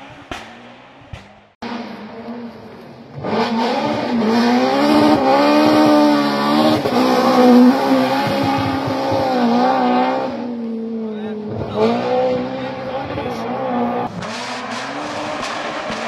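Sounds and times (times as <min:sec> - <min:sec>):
rally car engine revving past: 0:03.1 - 0:16.0.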